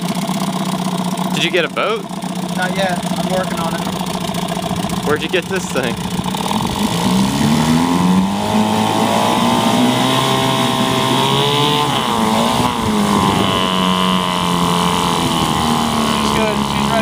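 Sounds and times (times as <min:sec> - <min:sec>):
outboard engine revving: 0:00.0 - 0:17.0.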